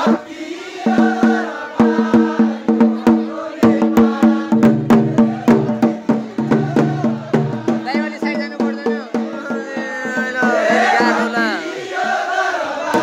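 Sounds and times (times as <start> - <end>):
drum beaten in quick rhythm: 0.0 - 13.0
deeper drum tone: 0.9 - 11.6.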